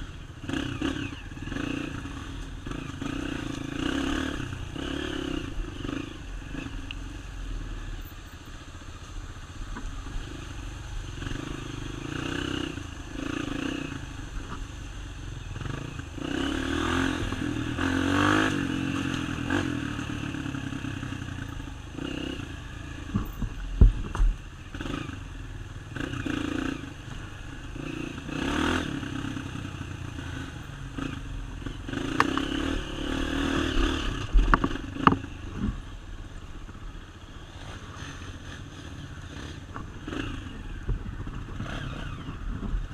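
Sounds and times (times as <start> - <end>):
off-road motorcycle engine revving: 0.0 - 42.9.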